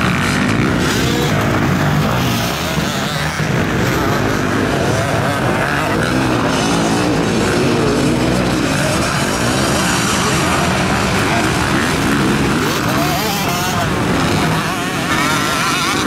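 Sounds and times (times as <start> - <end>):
motocross bike engines racing: 0.0 - 16.0.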